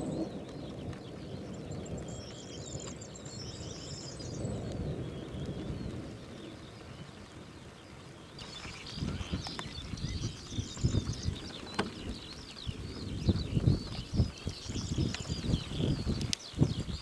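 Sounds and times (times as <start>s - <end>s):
songbirds chirping: 0.0s - 17.0s
thunder rumble: 0.0s - 17.0s.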